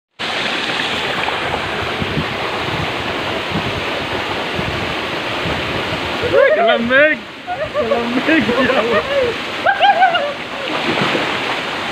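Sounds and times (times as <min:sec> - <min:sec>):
waterfall rushing: 0:00.1 - 0:11.9.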